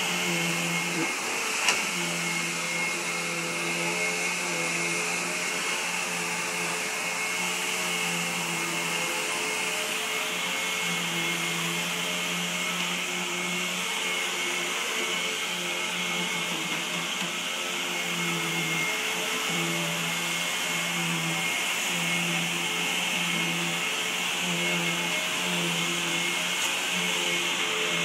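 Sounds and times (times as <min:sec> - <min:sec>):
vacuum cleaner running on carpet: 0:00.0 - 0:28.0.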